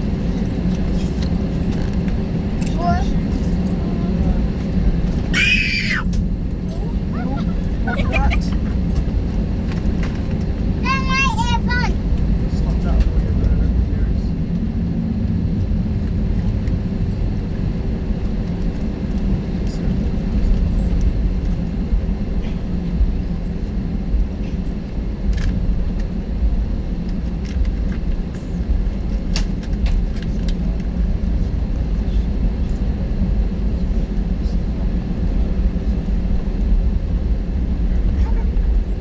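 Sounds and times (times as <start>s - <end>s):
jet engine rumble in cabin: 0.0s - 39.0s.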